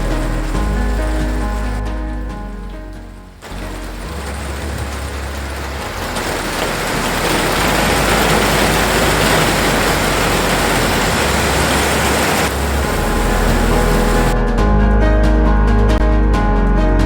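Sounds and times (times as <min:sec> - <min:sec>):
heavy rain downpour: 0:00.0 - 0:14.4
low bass background music: 0:00.0 - 0:17.0.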